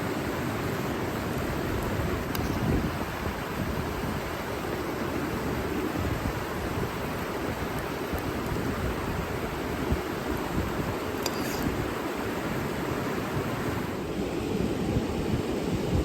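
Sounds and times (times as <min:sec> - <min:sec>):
river water rushing: 0:00.0 - 0:14.1.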